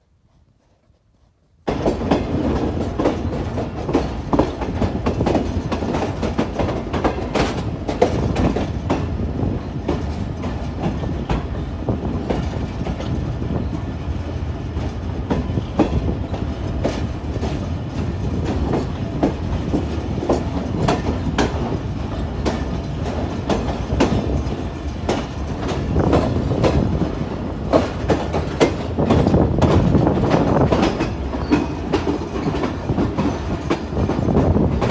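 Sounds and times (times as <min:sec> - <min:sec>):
steady train rumble: 0:00.1 - 0:34.9
train wheels clattering on track: 0:00.6 - 0:34.9.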